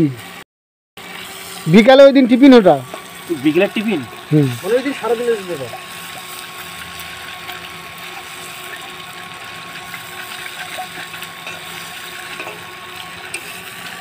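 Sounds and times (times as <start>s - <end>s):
food sizzling in a wok: 0.0s - 0.4s, 1.0s - 14.0s.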